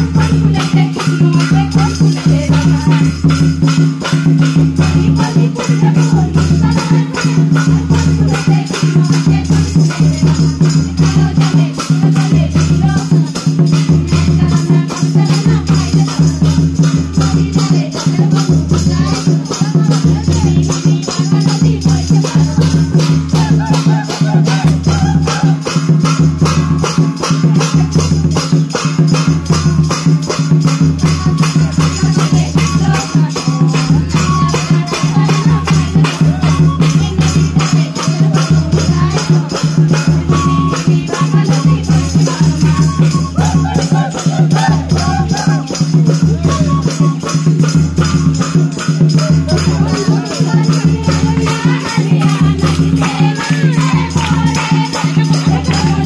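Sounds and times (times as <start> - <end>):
person singing: 0.0 - 28.4, 30.6 - 47.4, 48.5 - 56.0
fast even percussion: 0.0 - 56.0.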